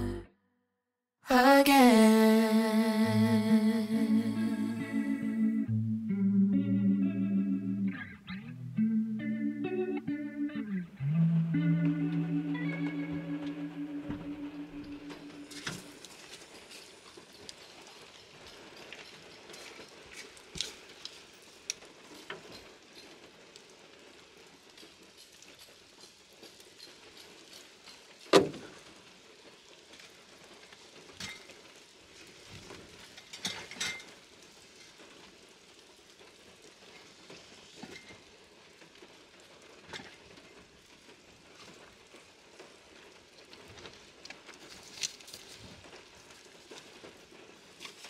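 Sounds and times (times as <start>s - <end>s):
rain pattering: 7.8s - 48.0s.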